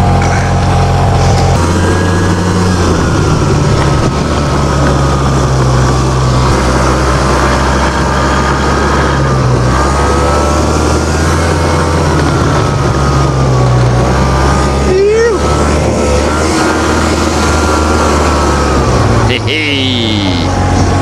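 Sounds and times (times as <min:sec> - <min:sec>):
snowmobile engine running: 0:00.0 - 0:21.0
steady rush of noise: 0:00.0 - 0:21.0.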